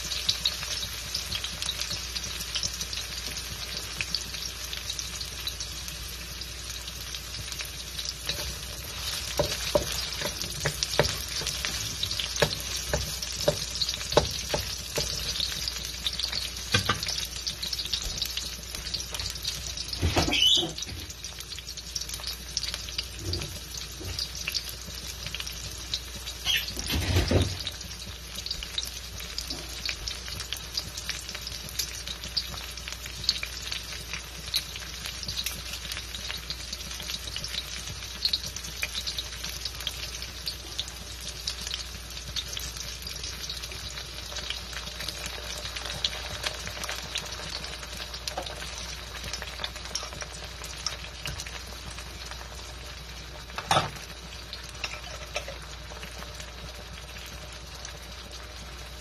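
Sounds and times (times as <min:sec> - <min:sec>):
onions sizzling in a wok: 0:00.0 - 0:59.0.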